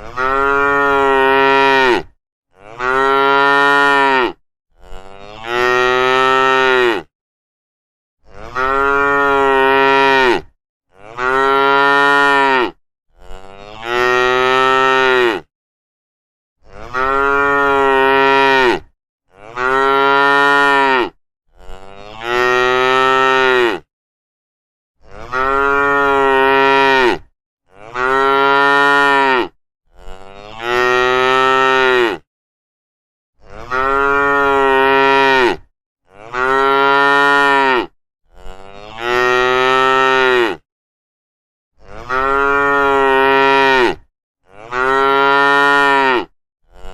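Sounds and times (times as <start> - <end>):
cow mooing: 0.0 - 7.1, 8.2 - 15.5, 16.6 - 23.9, 25.1 - 32.3, 33.4 - 40.6, 41.8 - 46.9.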